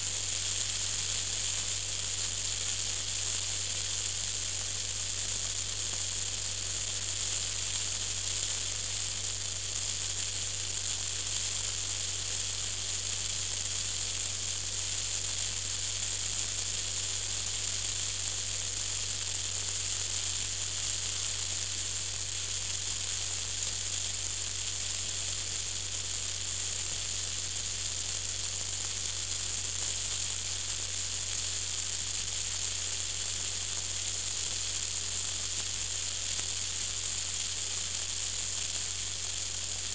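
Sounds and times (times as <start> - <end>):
wind noise hiss: 0.0 - 39.9.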